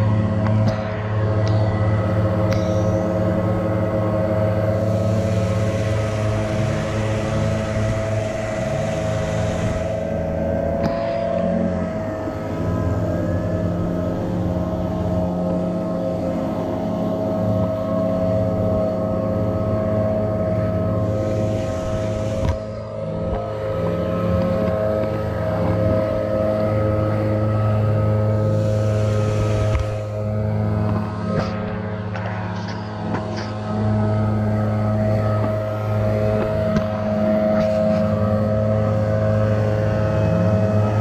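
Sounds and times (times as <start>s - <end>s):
leaf blowers running: 0.0s - 41.0s.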